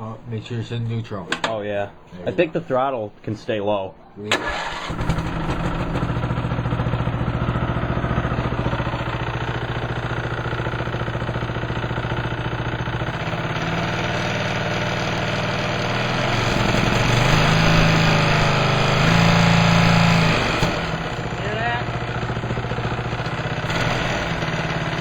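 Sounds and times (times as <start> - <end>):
lawn tractor engine knocking: 4.3 - 25.0.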